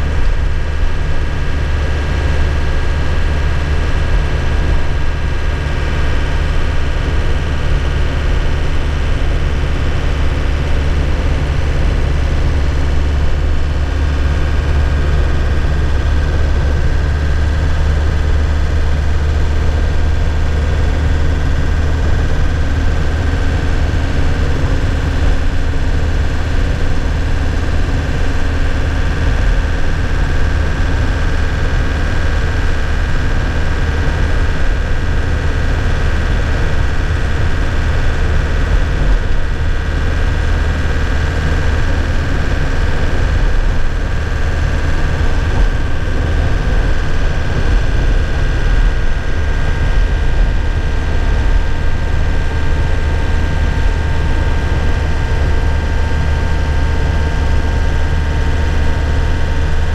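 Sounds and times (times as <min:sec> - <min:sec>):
diesel engine running: 0:00.0 - 0:59.9
thin engine whine: 0:00.0 - 0:59.9.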